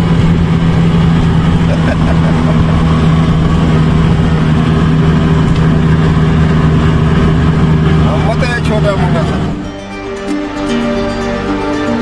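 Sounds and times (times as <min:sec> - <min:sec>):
road noise: 0:00.0 - 0:12.0
vehicle engine droning: 0:00.0 - 0:12.0.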